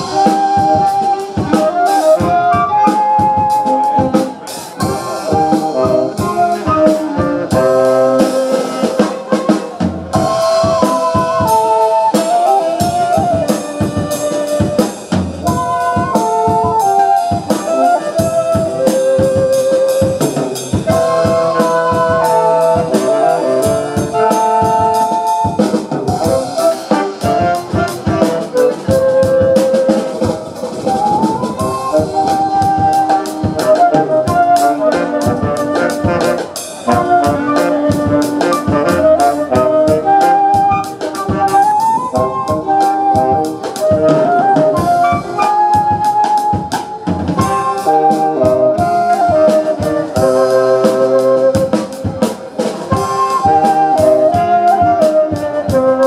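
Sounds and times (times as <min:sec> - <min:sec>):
drum kit beat: 0:00.0 - 0:56.0
saxophones and flute melody: 0:00.0 - 0:56.0.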